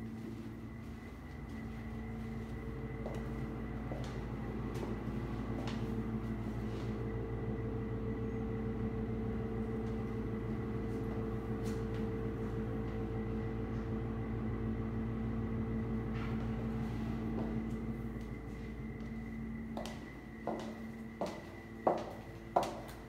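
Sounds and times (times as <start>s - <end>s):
fan humming: 0.0s - 23.0s.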